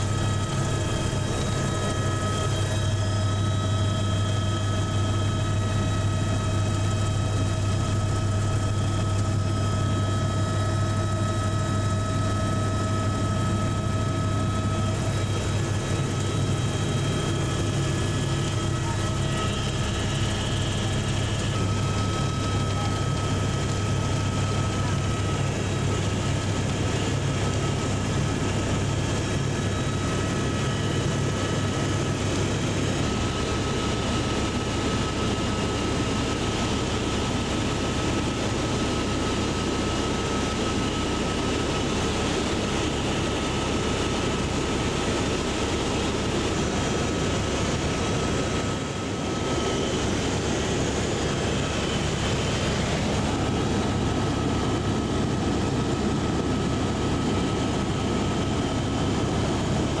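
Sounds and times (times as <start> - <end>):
helicopter cabin noise: 0.0 - 60.0.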